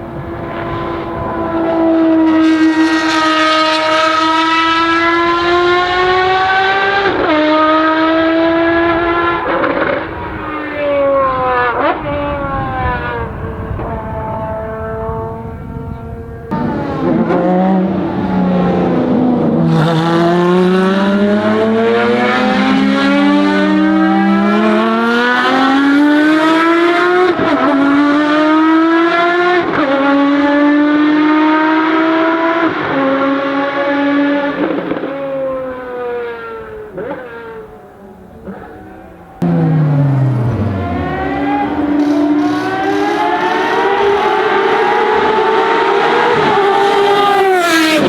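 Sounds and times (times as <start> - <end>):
sports car engine accelerating: 0.3 - 37.6, 38.3 - 48.0.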